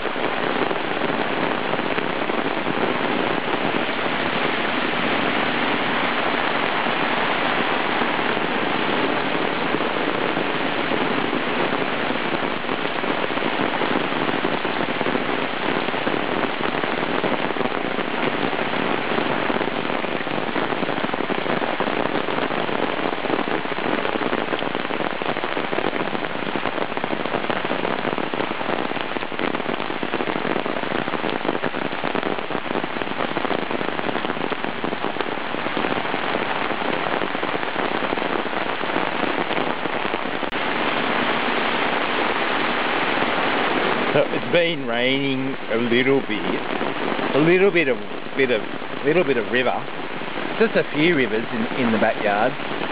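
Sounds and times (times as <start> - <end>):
rain falling steadily: 0.0 - 52.9.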